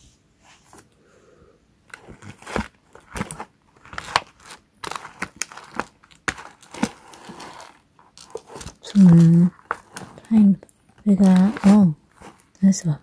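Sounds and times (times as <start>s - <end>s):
packaging crinkling: 1.9s - 12.7s.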